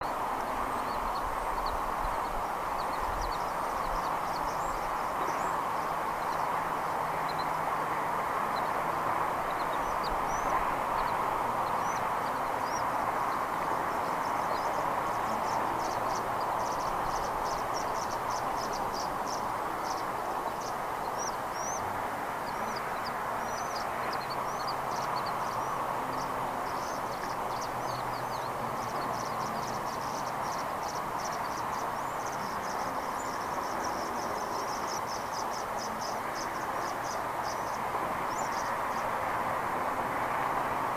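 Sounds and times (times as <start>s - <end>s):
small birds chirping: 0.0s - 39.4s
steady rushing noise: 0.0s - 40.9s.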